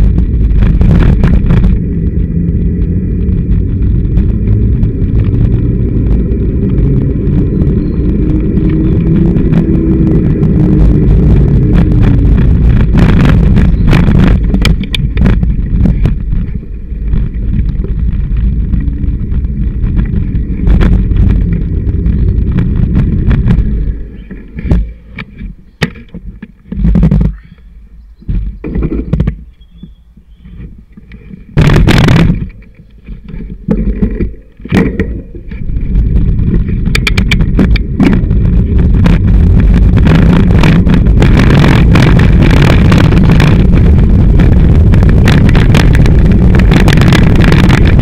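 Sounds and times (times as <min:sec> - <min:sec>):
bike rattles and knocks: 0:00.0 - 0:27.6, 0:28.2 - 0:48.0
low rumble of wind and road: 0:00.0 - 0:48.0.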